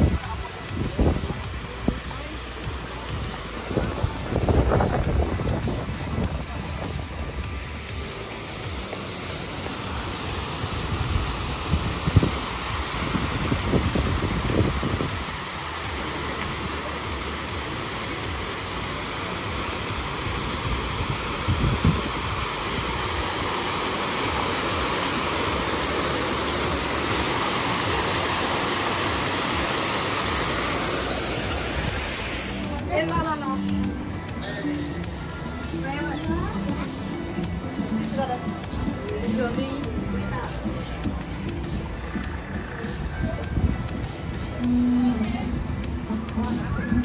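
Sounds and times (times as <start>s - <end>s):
falling water rushing: 0.0s - 47.0s.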